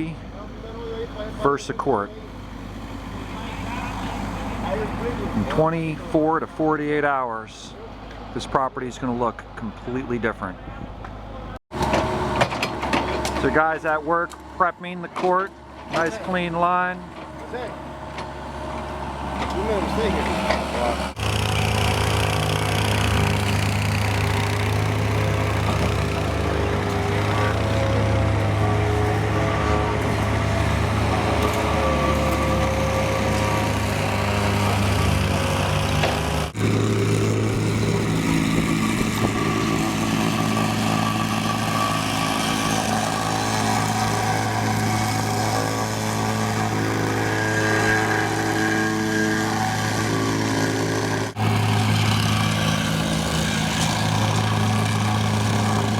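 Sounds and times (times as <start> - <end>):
machinery engine humming: 0.0 - 55.9.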